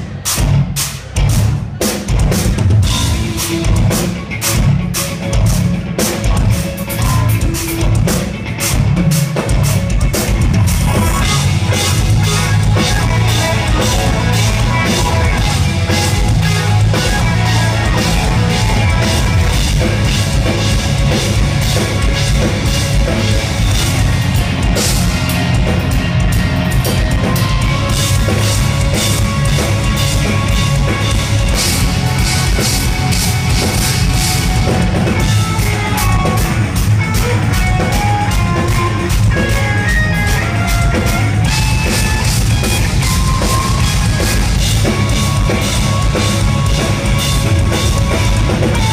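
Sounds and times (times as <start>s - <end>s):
distorted electric guitars: 0.0s - 48.9s
fast drum kit: 0.0s - 48.9s.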